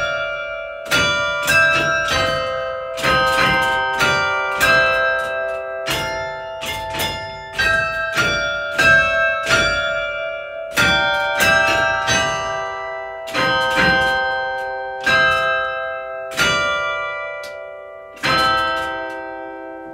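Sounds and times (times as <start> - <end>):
church bells ringing a tune: 0.0 - 19.9.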